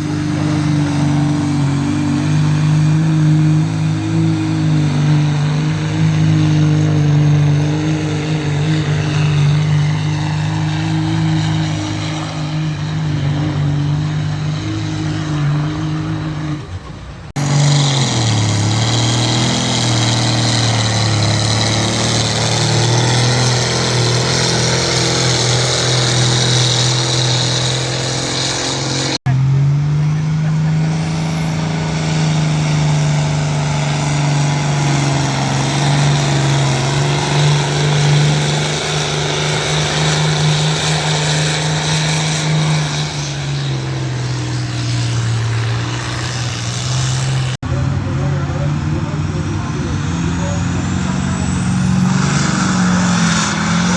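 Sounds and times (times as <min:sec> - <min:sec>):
vehicle engines running under load: 0:00.0 - 0:53.9.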